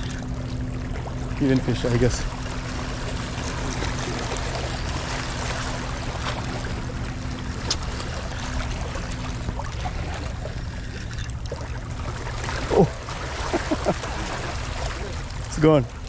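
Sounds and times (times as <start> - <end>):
low steady hum: 0.0 - 16.0
sea water washing at shoreline: 0.0 - 16.0.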